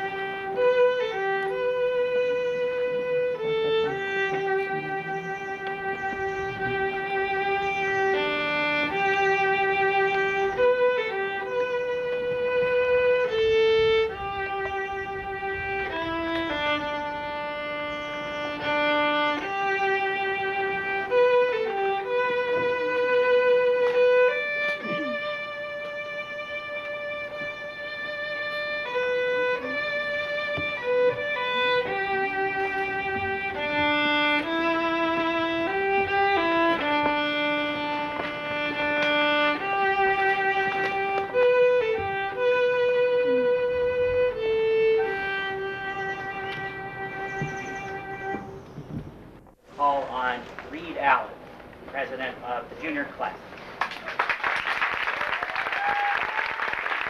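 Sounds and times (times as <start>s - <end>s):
solo violin slow melody: 0.0s - 49.6s.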